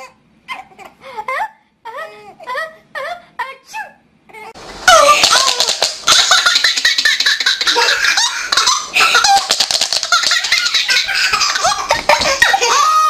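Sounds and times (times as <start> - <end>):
baby laughing: 0.0 - 2.8, 4.3 - 13.0.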